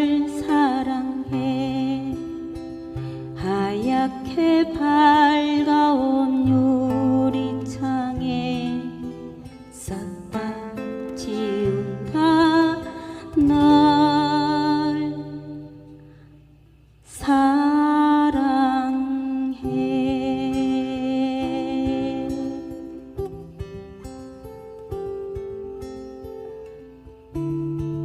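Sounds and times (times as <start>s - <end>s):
acoustic guitar: 0.0s - 28.0s.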